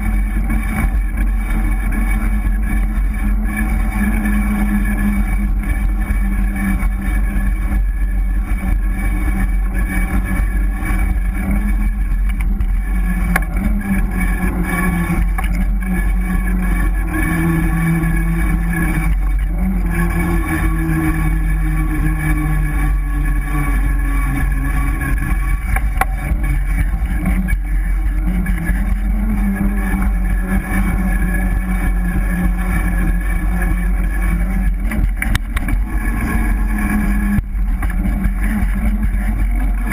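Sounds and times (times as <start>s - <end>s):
disc brake rotor rubbing whine: 0.0s - 39.9s
low rumble: 0.0s - 39.9s.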